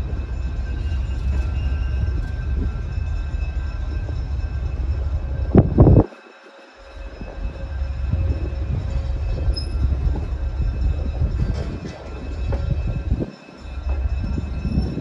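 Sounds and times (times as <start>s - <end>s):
train cars rolling on track: 0.0s - 15.0s.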